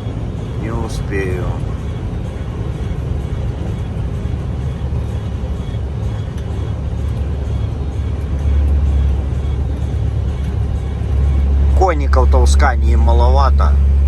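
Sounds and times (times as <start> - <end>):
truck diesel engine drone: 0.0 - 14.0.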